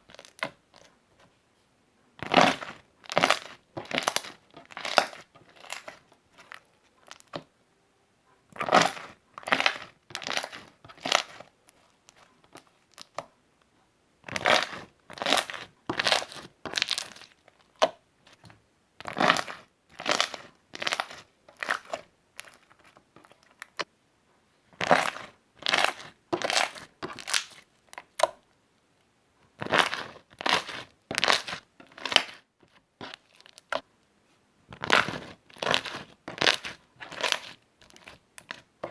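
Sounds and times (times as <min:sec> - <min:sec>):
slime squishing: 0:00.0 - 0:01.0, 0:02.2 - 0:07.5, 0:08.5 - 0:13.3, 0:14.2 - 0:23.9, 0:24.8 - 0:28.4, 0:29.6 - 0:33.9, 0:34.7 - 0:38.9.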